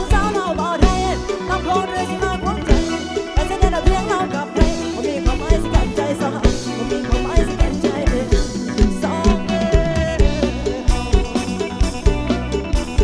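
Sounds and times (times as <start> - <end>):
bending melodic lead line: 0.0 - 13.0
fast drum beat: 0.0 - 13.0
live band dance music: 0.0 - 13.0.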